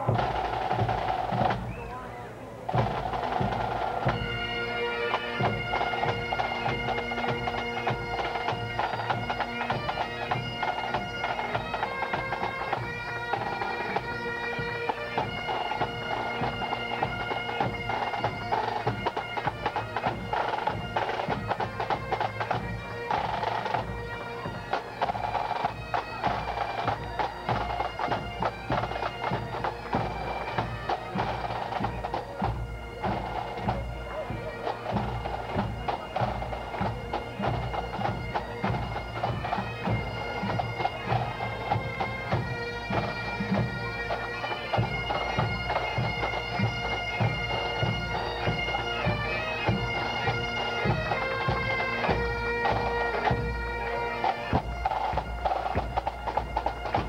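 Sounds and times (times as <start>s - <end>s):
bagpipes playing: 0.0s - 57.0s.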